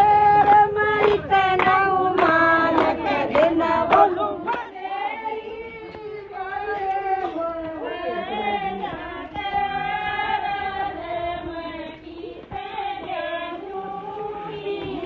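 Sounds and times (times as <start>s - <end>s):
rhythmic hand clapping: 0.0s - 15.0s
women singing together: 0.0s - 15.0s.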